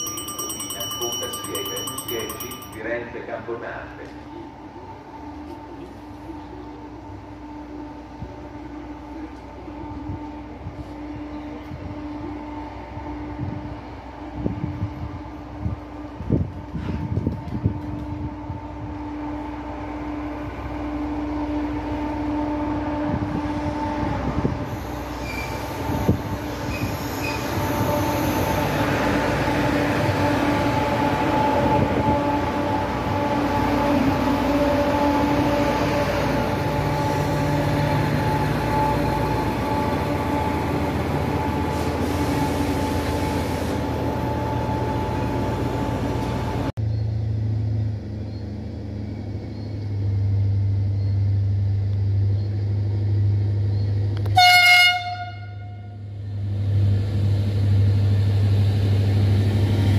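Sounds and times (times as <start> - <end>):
high whining train tones: 0.0 - 59.9
train wheels rumbling on rail: 0.0 - 59.9.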